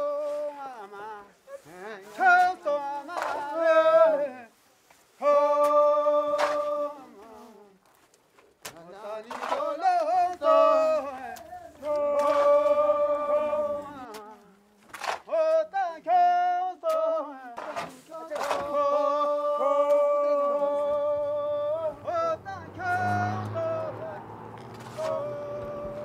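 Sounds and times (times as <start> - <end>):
person singing unaccompanied: 0.0 - 7.8, 8.7 - 26.0.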